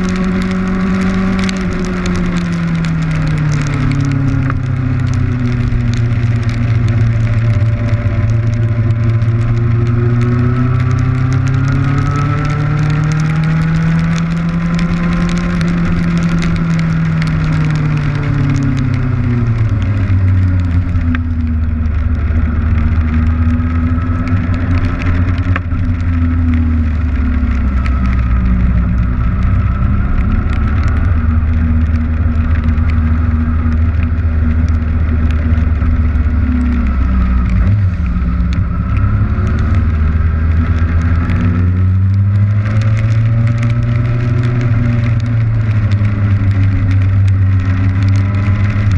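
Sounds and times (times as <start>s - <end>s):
motorcycle engine: 0.0s - 48.9s
rain noise: 0.0s - 48.9s
wind noise on camera: 0.0s - 48.9s.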